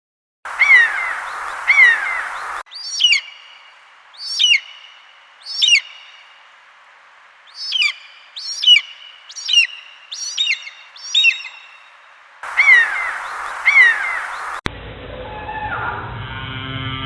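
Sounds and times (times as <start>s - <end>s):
bird calling short high calls: 0.5s - 14.6s.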